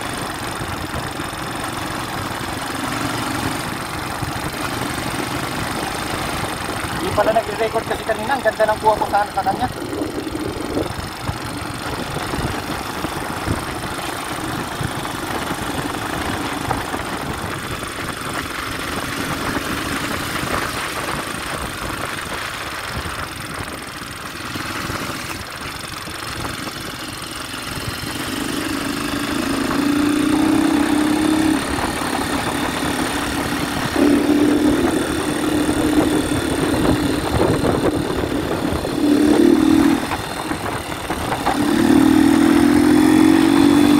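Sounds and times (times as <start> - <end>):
loud engine drone: 0.0 - 43.9
small vehicle engine running: 0.0 - 43.9
wind and road rush: 0.0 - 43.9.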